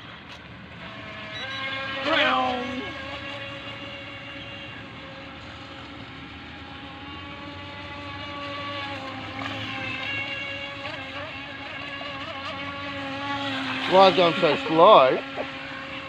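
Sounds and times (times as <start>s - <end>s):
electric boat motor whining: 0.0s - 16.0s.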